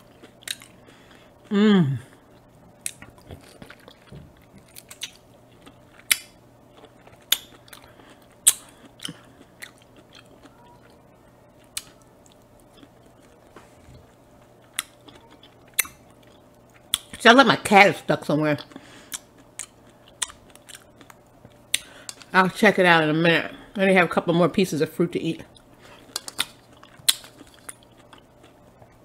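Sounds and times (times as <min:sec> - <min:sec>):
person chewing fruit: 0:00.0 - 0:17.2, 0:18.6 - 0:22.3, 0:25.5 - 0:29.0.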